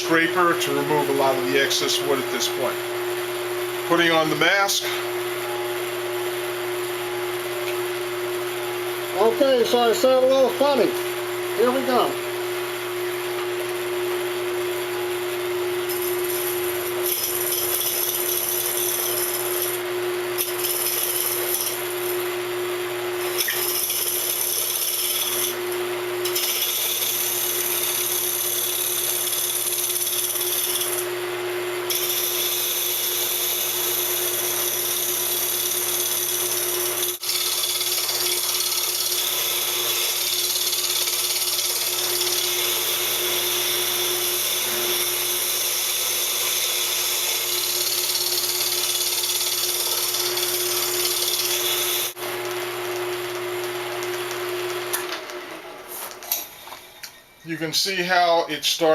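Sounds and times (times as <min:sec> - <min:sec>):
wood lathe humming: 0:00.0 - 0:57.1.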